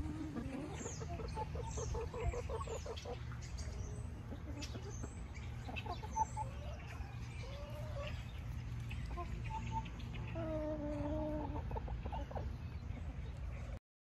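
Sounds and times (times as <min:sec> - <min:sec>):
hens clucking: 0:00.0 - 0:13.8.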